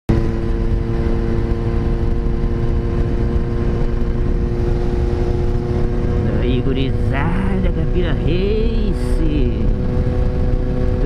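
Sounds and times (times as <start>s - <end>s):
motorcycle engine cruising: 0.1s - 11.0s
wind rush on microphone: 0.1s - 11.0s.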